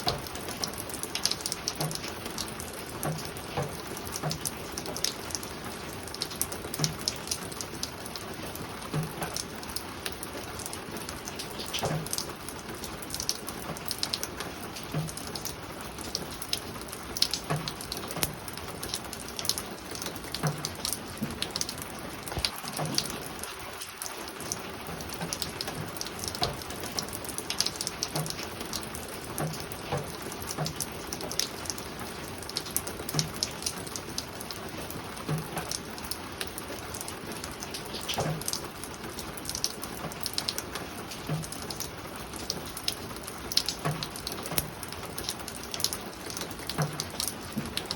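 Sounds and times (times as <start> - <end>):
rain pattering on a roof: 0.0 - 47.9.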